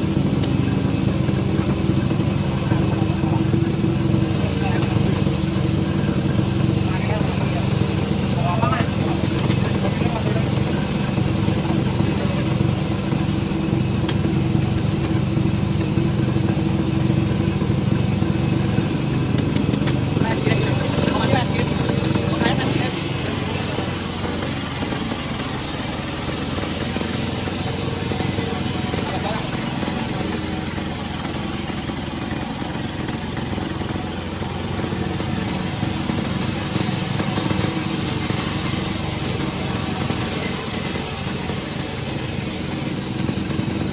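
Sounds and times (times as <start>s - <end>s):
sawmill machinery engine running: 0.0s - 43.9s.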